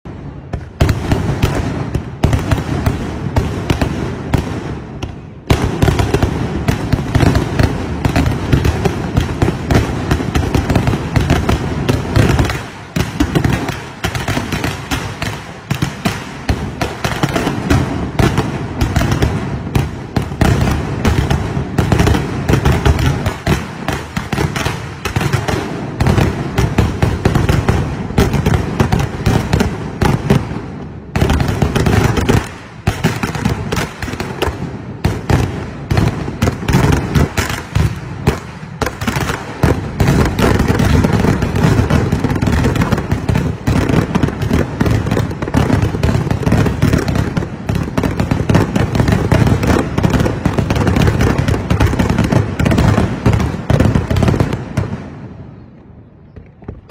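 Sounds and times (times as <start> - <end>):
fireworks banging: 0.0 - 55.2, 55.8 - 56.9.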